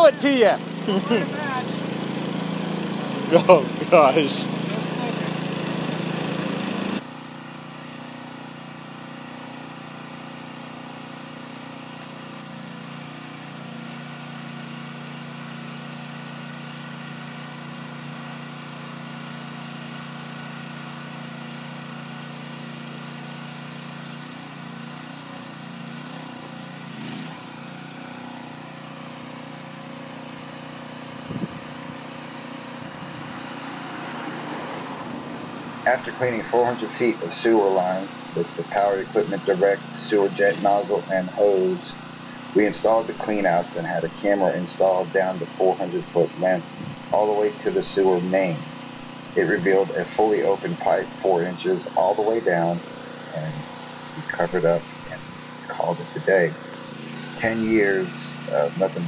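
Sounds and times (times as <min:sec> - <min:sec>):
small engine running steadily: 0:00.0 - 0:59.0.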